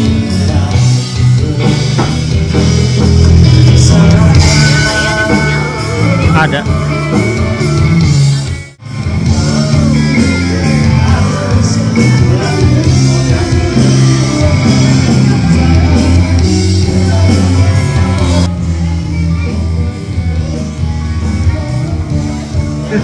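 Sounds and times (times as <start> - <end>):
background music with singing: 0.0 - 23.0.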